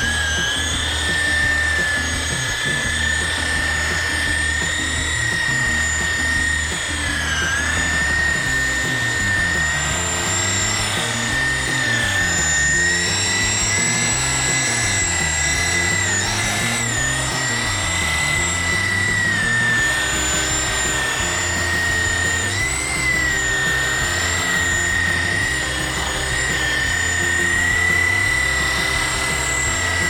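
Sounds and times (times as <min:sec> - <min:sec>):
background music with bass: 0:00.0 - 0:30.0
rotary polisher whining: 0:00.0 - 0:30.0.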